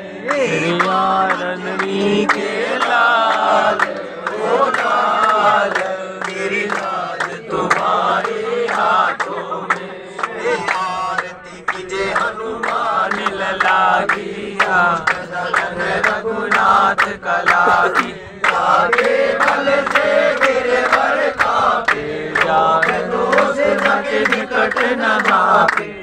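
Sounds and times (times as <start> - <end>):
men singing together: 0.0 - 26.0
hand-clapping: 0.2 - 26.0.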